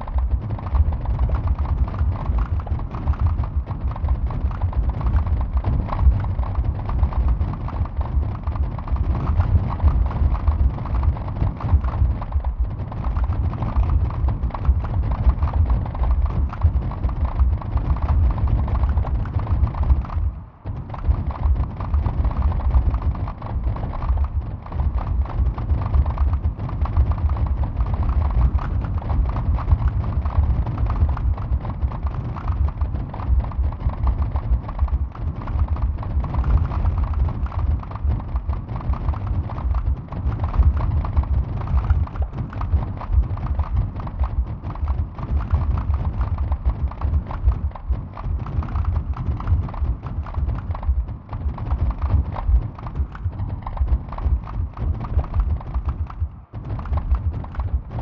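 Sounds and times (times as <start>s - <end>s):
dense patter of low thuds: 0.0s - 58.0s.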